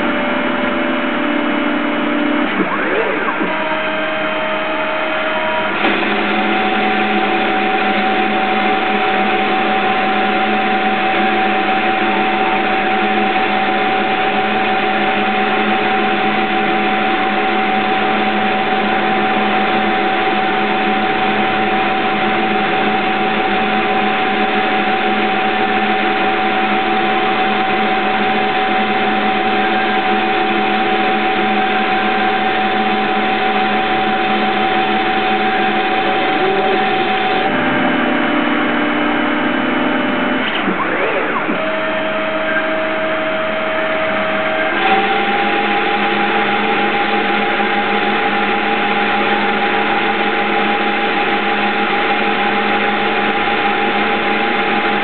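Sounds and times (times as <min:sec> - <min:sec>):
lathe motor whining: 0:00.0 - 0:55.0.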